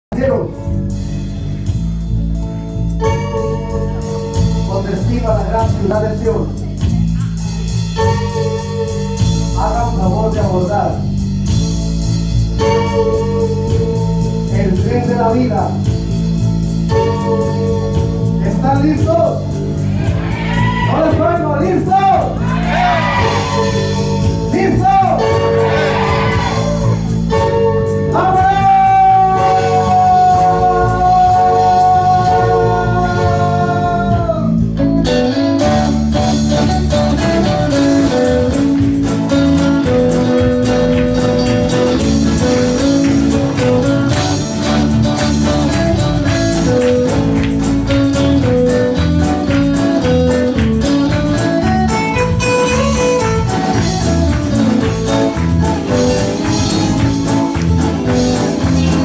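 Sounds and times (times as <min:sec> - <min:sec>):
live rock band playing: 0:00.1 - 0:59.0.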